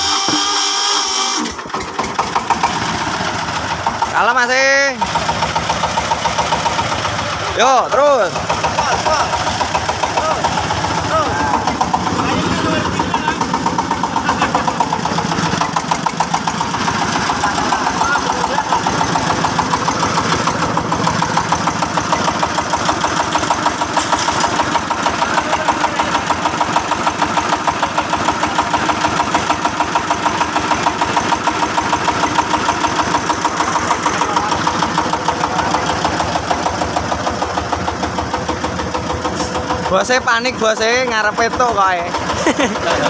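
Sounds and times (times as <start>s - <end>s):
truck engine running: 0.0s - 43.0s.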